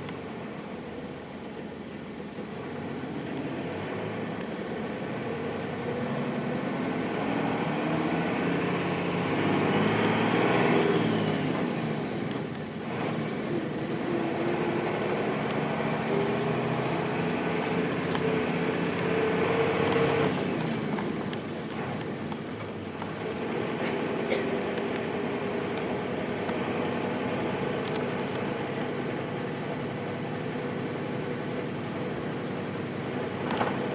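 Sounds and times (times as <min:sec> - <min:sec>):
bus diesel engine revving: 0:02.6 - 0:33.9.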